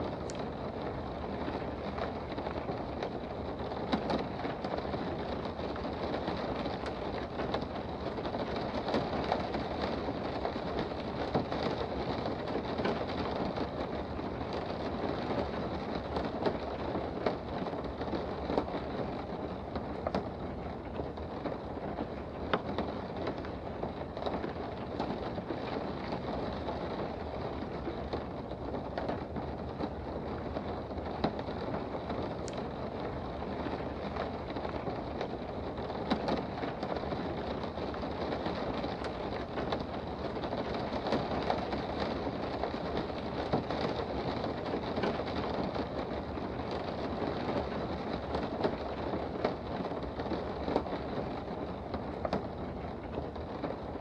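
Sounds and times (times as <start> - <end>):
raindrops ticking: 0.0 - 54.0.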